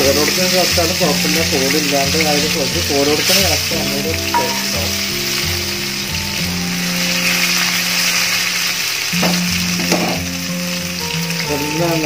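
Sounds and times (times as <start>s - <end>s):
background music with held notes: 0.0s - 12.0s
garlic sizzling in hot oil: 0.0s - 12.0s.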